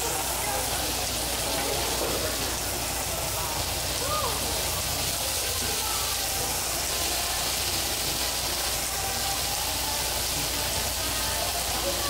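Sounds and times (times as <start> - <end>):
chicken sizzling on a griddle: 0.0 - 12.0.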